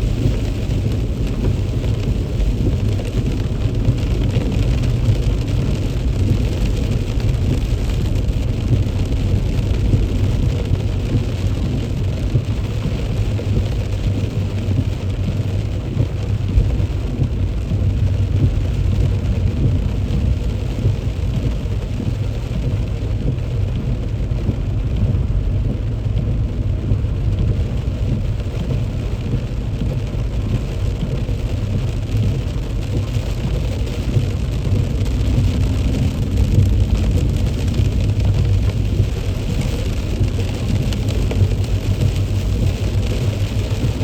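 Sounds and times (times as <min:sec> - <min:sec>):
rain hissing: 0:00.0 - 0:44.0
road and tyre rumble: 0:00.0 - 0:44.0.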